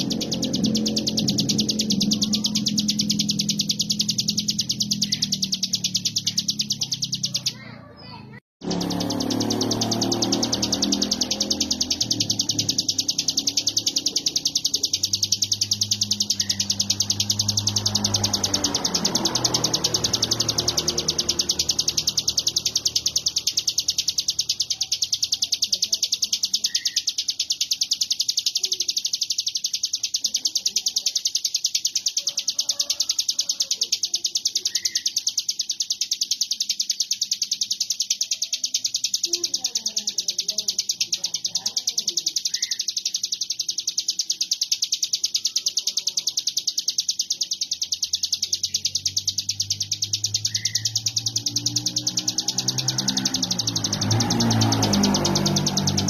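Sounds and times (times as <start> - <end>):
bird buzzing trill: 0.0 - 56.0.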